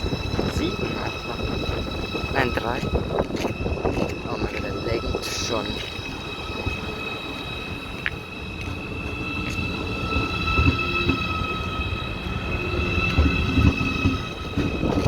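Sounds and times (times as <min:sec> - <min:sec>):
electric train whining: 0:00.0 - 0:15.0.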